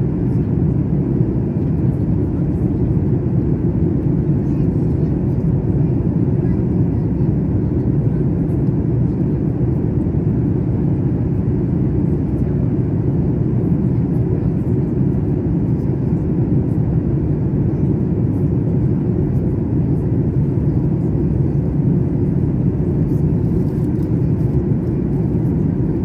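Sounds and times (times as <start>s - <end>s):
airliner cabin engine and airflow rumble: 0.0s - 26.0s.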